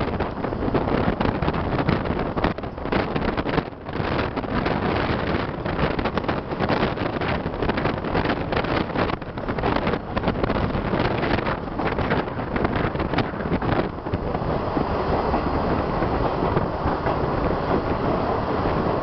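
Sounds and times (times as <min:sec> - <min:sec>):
train wheels rushing on rails: 0:00.0 - 0:19.0
wind buffeting microphone: 0:00.0 - 0:19.0.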